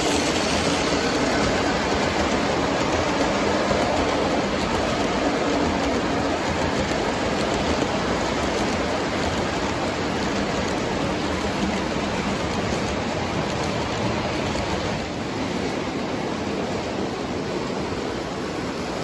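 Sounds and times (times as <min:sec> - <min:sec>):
model train rolling rumble: 0:00.0 - 0:16.8.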